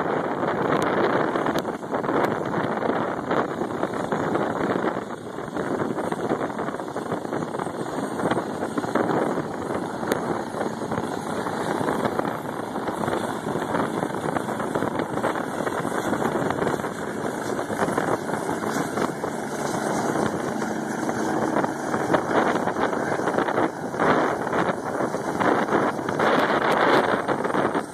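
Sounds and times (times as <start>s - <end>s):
helicopter turbine and rotor: 0.0s - 27.9s.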